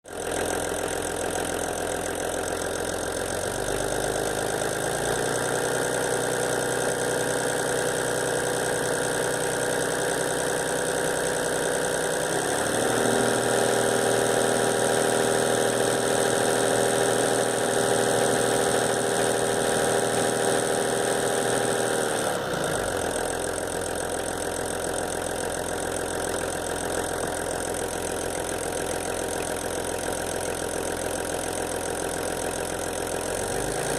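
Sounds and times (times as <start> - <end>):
van engine idling and revving: 0.1 - 33.9.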